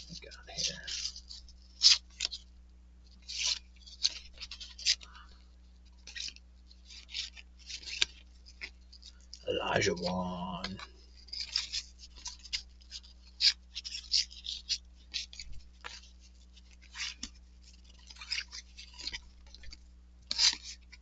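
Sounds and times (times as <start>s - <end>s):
cards scraping and clicking: 0.0s - 21.0s.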